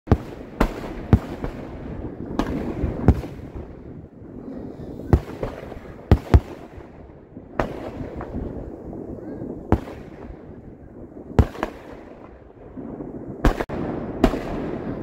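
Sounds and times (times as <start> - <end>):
rumble of fireworks display: 0.1 - 15.0.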